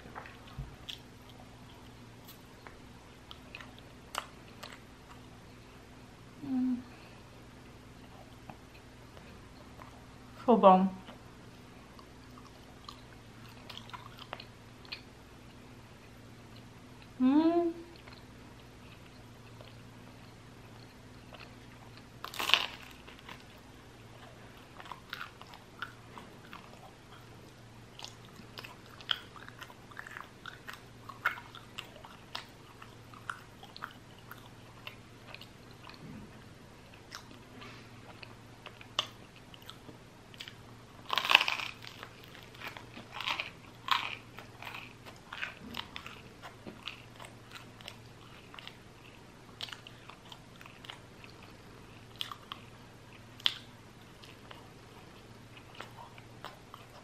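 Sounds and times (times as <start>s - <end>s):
crunchy chewing: 0.1s - 5.7s, 11.8s - 15.7s, 18.0s - 57.0s.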